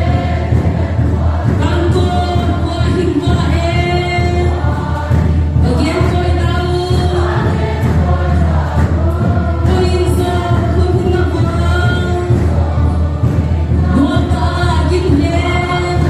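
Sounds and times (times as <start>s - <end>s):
group singing praise song: 0.0s - 16.0s.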